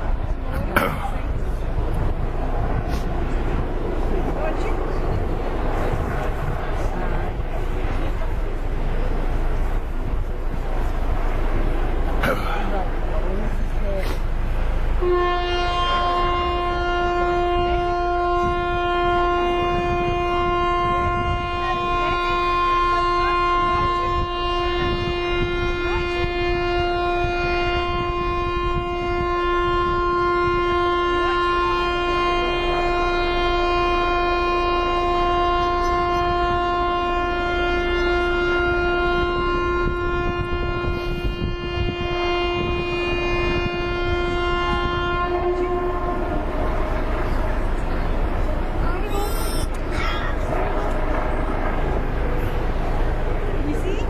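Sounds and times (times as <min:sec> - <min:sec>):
outdoor background noise: 0:00.0 - 0:54.0
warning horn long note: 0:00.1 - 0:53.8.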